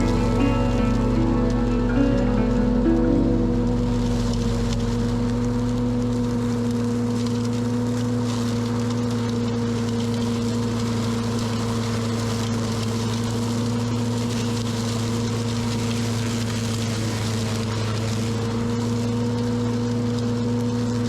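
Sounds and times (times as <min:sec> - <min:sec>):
small engine running steadily: 0:00.0 - 0:21.0.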